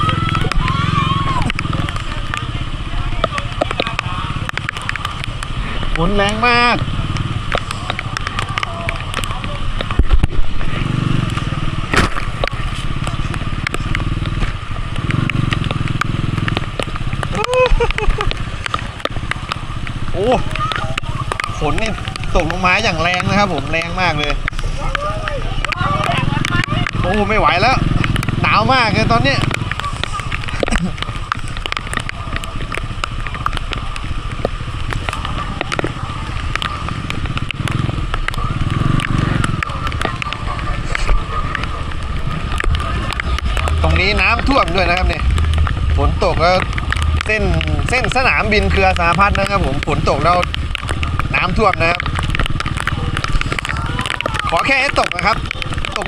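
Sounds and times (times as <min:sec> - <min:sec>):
heavy rain: 0:00.0 - 0:56.0
motorcycle engine running: 0:00.0 - 0:56.0
raindrops clicking: 0:00.0 - 0:56.0.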